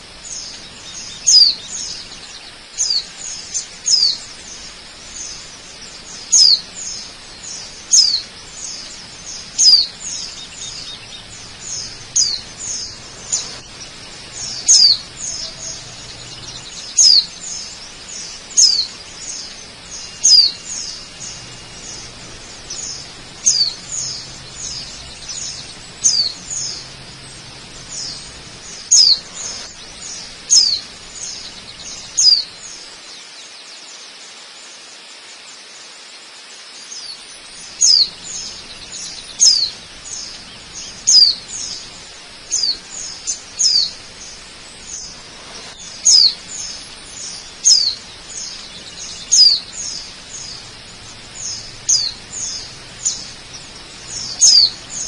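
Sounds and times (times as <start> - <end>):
bird chirping: 0.0 - 34.0, 36.7 - 55.0
rushing water: 0.0 - 55.0.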